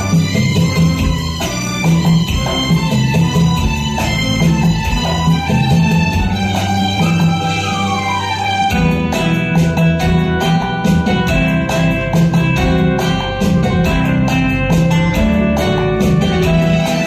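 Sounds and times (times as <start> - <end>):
karaoke backing track: 0.0 - 17.0.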